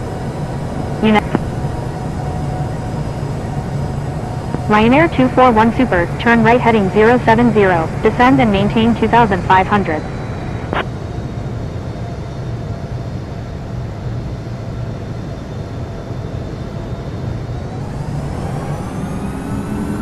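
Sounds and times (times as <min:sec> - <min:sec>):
jet engines rumbling: 0:00.0 - 0:20.0
multi-tone engine whine: 0:00.0 - 0:20.0.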